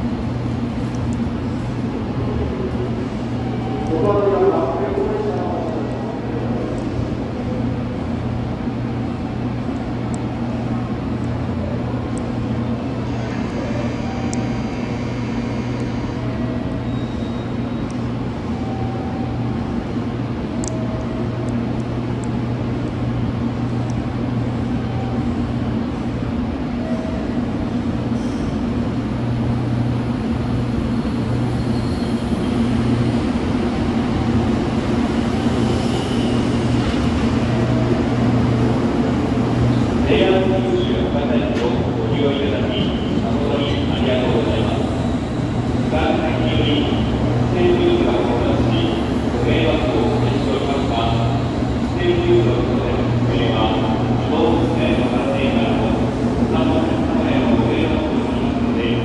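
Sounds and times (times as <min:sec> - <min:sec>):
train equipment humming: 0:00.0 - 0:59.0
train pulling away: 0:00.0 - 0:59.0.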